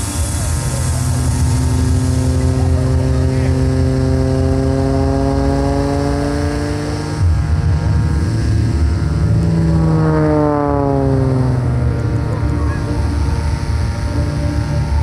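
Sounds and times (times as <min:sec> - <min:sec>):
propeller plane engine running: 0:00.0 - 0:15.0.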